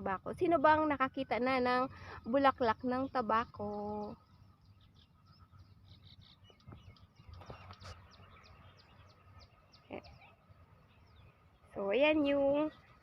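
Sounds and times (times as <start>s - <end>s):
small bird chirping: 0.8s - 13.0s.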